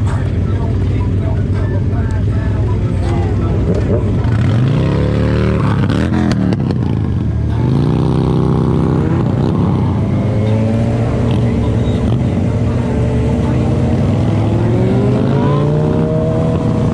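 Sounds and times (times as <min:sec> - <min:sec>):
road and wind rumble: 0:00.0 - 0:16.9
vehicle engine accelerating: 0:00.0 - 0:16.9.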